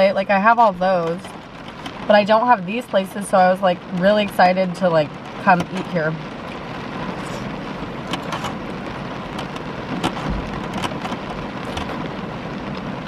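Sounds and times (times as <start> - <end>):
rain pattering on a car roof: 0.0 - 13.0.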